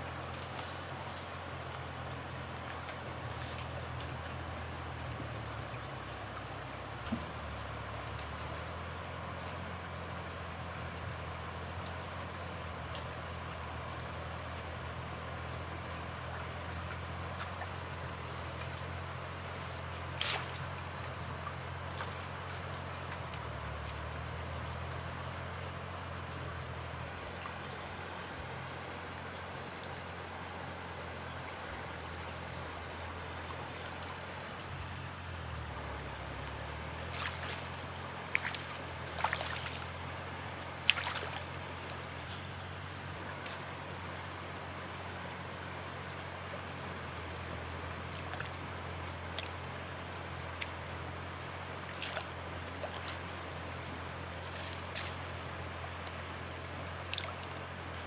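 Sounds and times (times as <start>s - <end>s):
trickling water: 0.0s - 58.0s.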